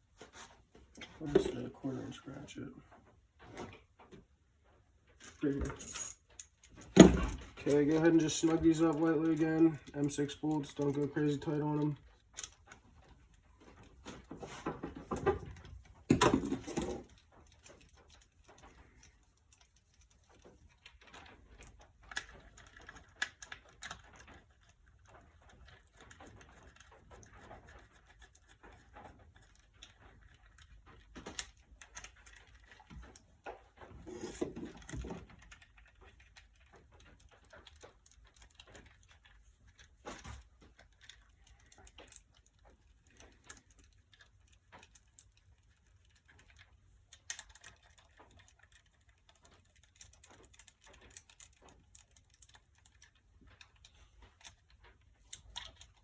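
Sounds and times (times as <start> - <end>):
clattering handling noise: 0.0 - 2.2, 2.8 - 56.0
bolts and hand tool clinking: 5.2 - 56.0.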